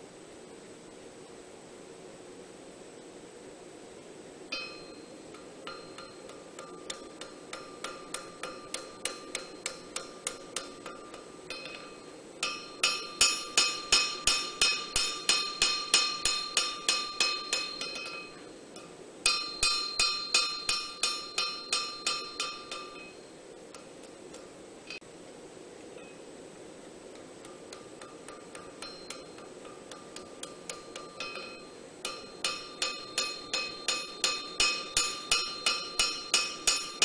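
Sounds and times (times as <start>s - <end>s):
hammer ringing on anvil: 4.5s - 25.0s, 27.4s - 37.0s.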